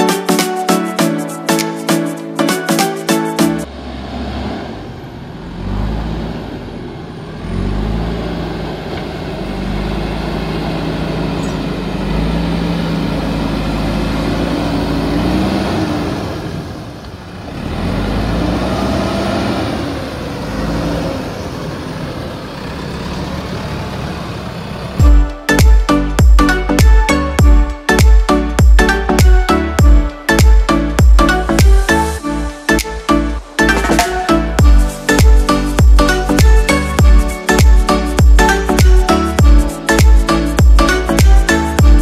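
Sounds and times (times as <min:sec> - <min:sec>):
diesel engine revving: 0:03.6 - 0:42.0.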